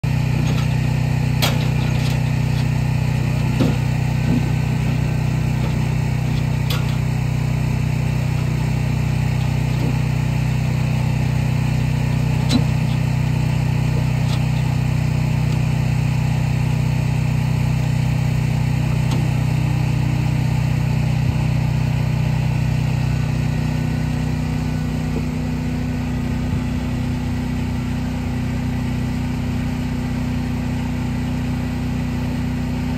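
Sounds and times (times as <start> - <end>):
low engine-like hum: 0.0 - 32.9.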